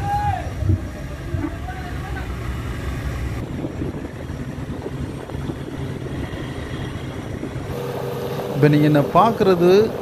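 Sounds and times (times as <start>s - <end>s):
diesel boat engine drone: 0.6s - 10.0s.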